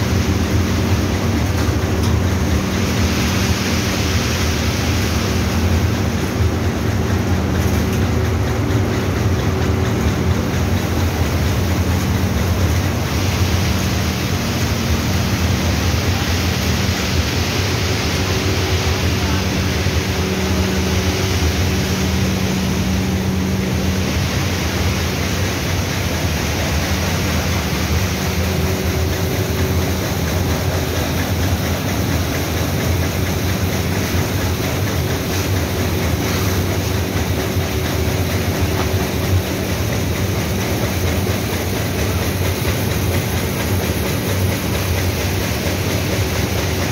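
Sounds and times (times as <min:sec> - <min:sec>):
processing machinery humming: 0:00.0 - 0:46.9.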